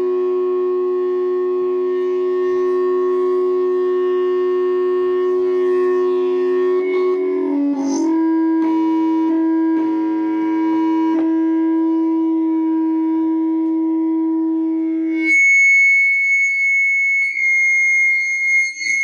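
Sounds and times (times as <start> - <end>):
loudspeaker feedback tone: 0.0 - 19.0.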